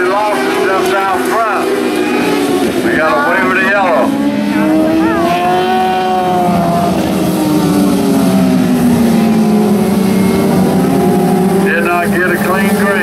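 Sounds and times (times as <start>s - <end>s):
racing engines at high revs: 0.0s - 13.0s.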